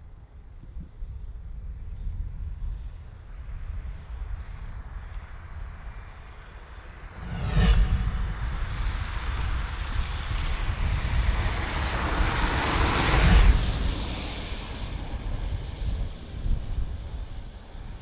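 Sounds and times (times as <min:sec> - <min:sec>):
jet airliner engine noise: 0:01.5 - 0:18.0.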